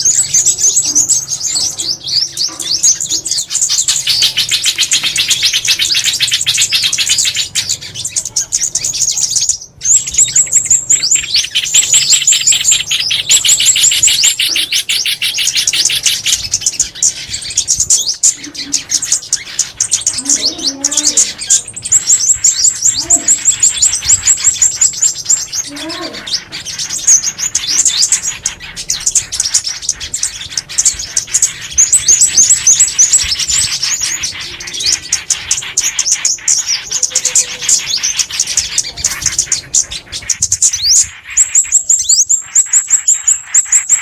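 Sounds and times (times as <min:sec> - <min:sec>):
songbirds twittering: 0:00.0 - 0:44.0.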